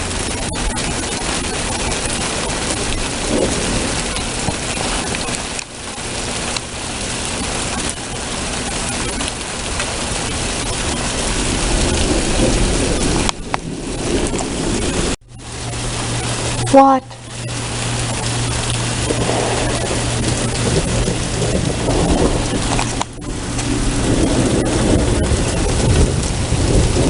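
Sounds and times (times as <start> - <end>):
heavy rain pouring: 0.0 - 27.0
low rumbles of thunder: 0.0 - 27.0.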